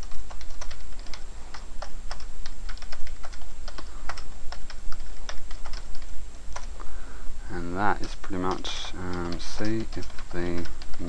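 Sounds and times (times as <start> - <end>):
typing on computer keyboard: 0.0 - 6.7, 8.0 - 11.0
steady low hum: 0.0 - 11.0.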